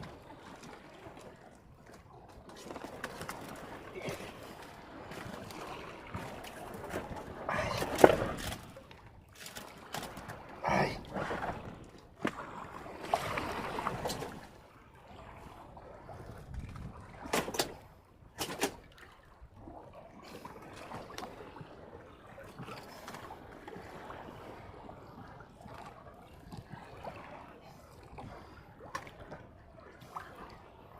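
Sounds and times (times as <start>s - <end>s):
water lapping against boat hull: 0.0s - 30.9s.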